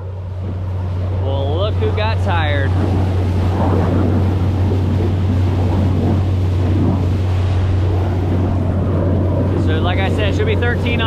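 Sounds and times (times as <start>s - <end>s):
motorboat engine drone: 0.0s - 11.0s
rush of wind and water: 0.0s - 11.0s.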